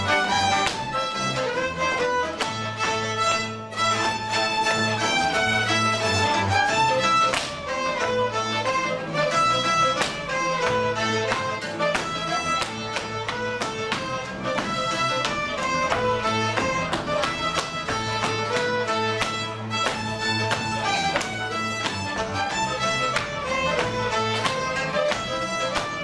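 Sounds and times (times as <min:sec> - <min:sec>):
folk string band playing dance music: 0:00.0 - 0:26.0.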